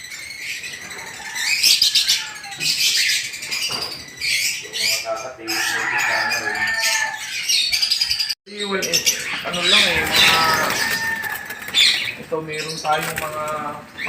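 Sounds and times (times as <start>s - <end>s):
lovebirds chirping and squawking: 0.0s - 14.0s.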